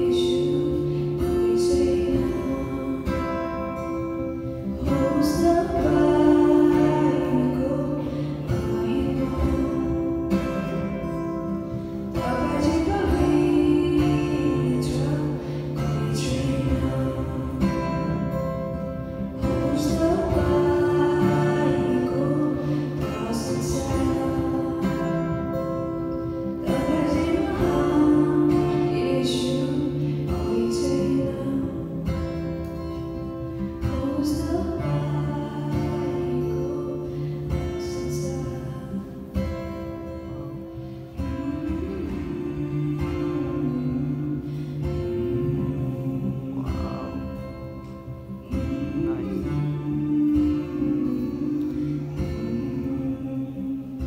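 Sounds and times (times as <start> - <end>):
strummed acoustic guitar: 0.0 - 54.0
woman and man singing duet: 0.0 - 54.0.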